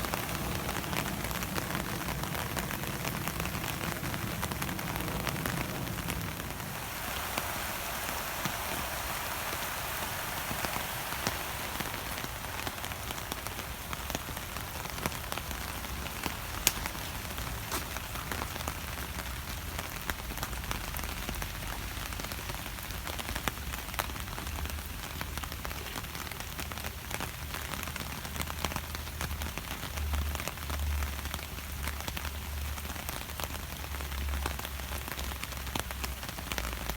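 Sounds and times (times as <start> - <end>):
raindrops ticking close by: 0.0 - 36.9
steady rain falling: 0.0 - 36.9.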